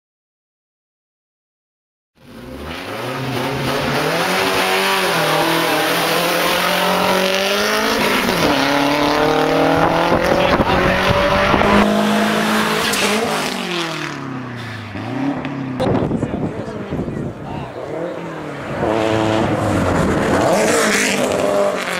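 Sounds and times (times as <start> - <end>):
car engine accelerating hard: 2.2 - 21.9.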